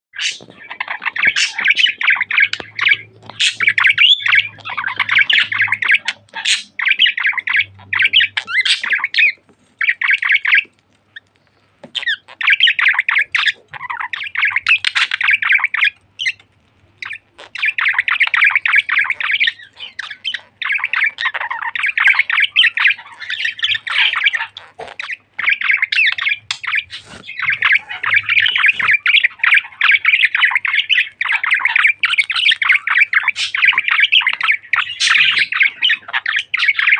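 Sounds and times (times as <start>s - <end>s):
budgerigar chattering and warbling: 0.2s - 10.7s, 11.9s - 36.9s.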